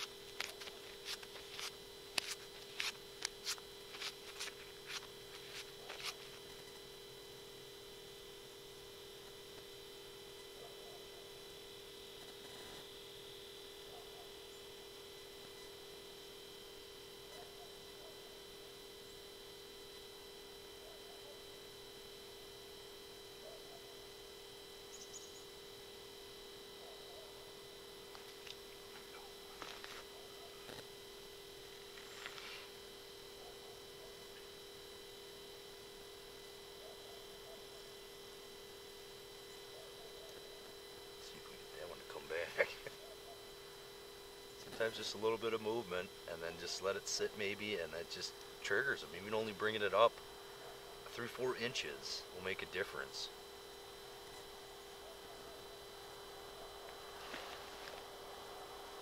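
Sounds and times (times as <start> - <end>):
steady electronic whine: 0.0 - 59.0.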